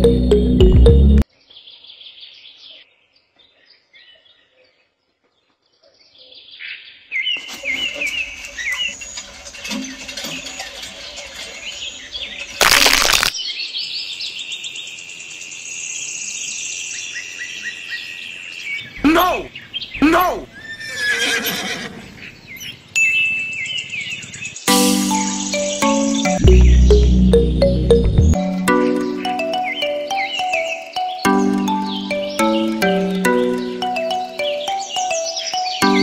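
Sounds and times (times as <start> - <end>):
songbirds chirping: 0.0 - 12.6, 13.3 - 36.0.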